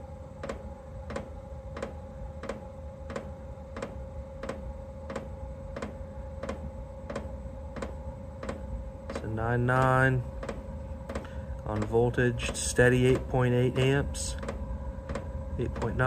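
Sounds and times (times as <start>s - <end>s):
combustion fan whine: 0.0s - 16.0s.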